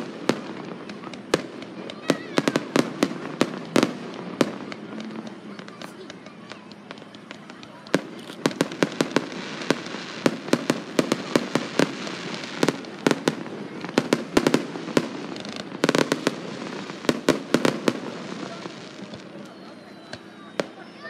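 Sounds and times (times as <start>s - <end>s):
fireworks bangs and cracks: 0.0s - 21.0s
fireworks crackling: 0.0s - 21.0s.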